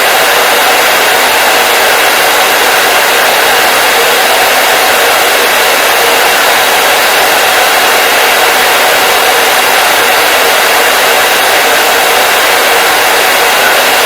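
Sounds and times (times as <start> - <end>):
hair dryer airflow hiss: 0.0 - 14.0.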